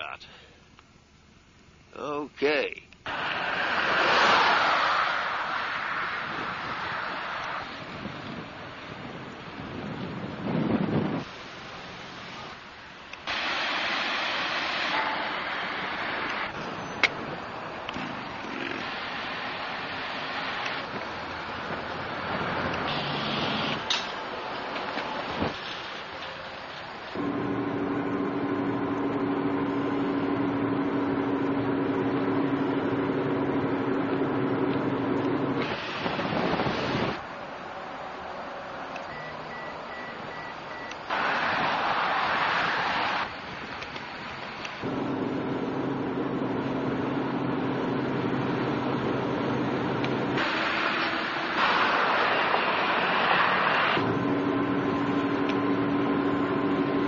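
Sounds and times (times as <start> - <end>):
rushing noise: 3.0 - 38.9, 41.0 - 57.0.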